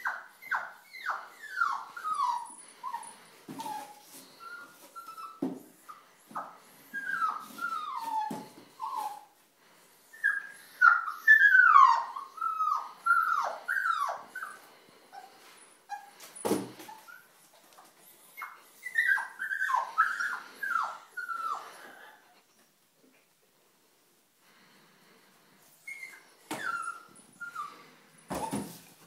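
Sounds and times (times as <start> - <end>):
puppy whimpering: 0.0 - 9.4, 10.1 - 17.4, 18.4 - 22.7, 25.8 - 28.9.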